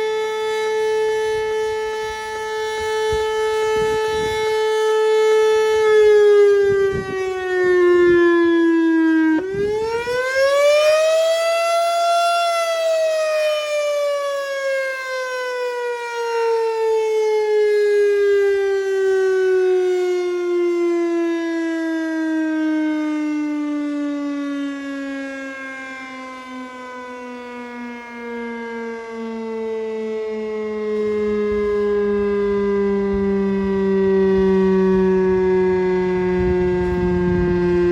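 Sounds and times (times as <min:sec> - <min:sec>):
tornado warning siren wailing: 0:00.0 - 0:37.9.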